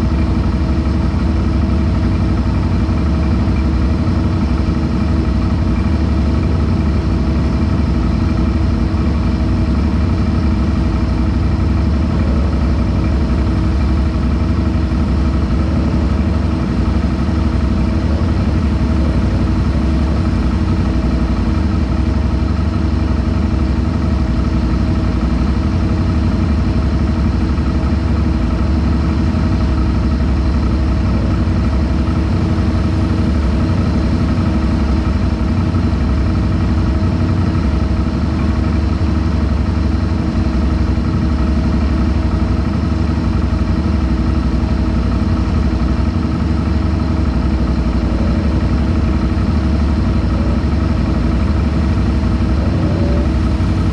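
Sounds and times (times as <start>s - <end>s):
atv engine idling: 0.0s - 53.9s.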